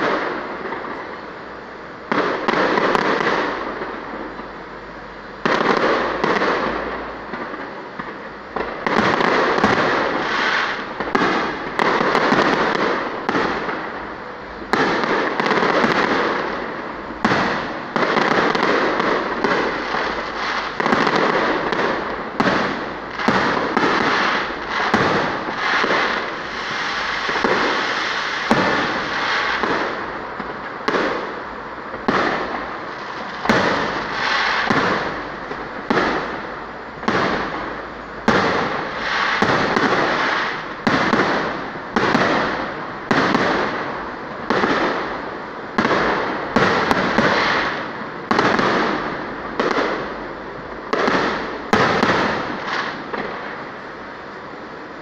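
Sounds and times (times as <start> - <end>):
fireworks bangs: 0.0 - 55.0
fireworks crackle: 0.0 - 55.0.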